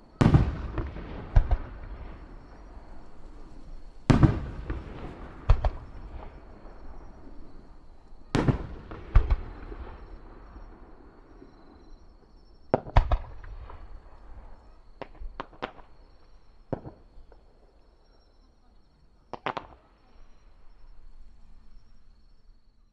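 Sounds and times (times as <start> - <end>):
fireworks bursting with echo: 0.0 - 18.1, 19.3 - 21.9.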